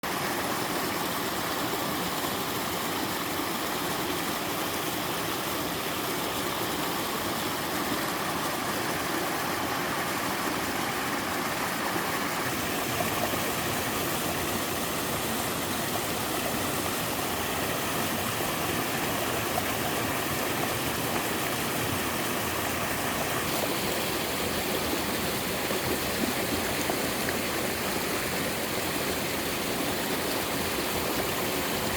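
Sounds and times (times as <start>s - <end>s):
waterfall pouring into a stream: 0.0s - 31.9s.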